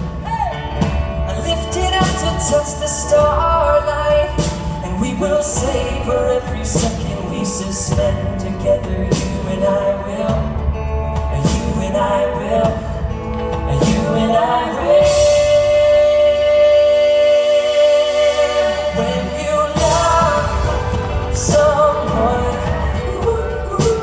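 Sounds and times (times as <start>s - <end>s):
live pop band playing: 0.0s - 24.0s
person singing: 0.0s - 24.0s.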